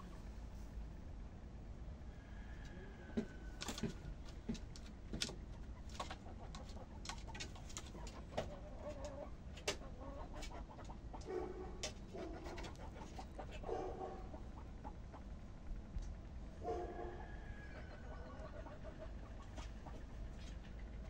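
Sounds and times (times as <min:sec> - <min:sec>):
chickens clucking softly: 0:02.0 - 0:04.6, 0:05.2 - 0:21.0.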